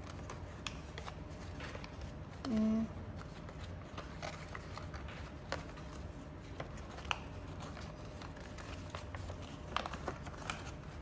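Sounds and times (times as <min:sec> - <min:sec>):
low room hum: 0:00.0 - 0:11.0
paper clicks: 0:00.0 - 0:11.0
paper rustling and crinkling: 0:00.0 - 0:11.0.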